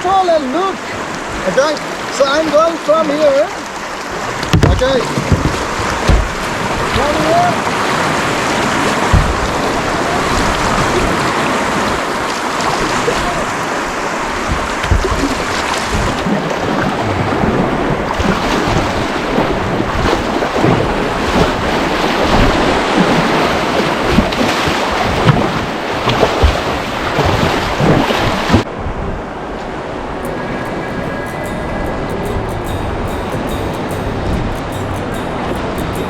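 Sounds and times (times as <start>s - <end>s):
whitewater river rushing: 0.0s - 36.0s
wind buffeting microphone: 3.7s - 36.0s.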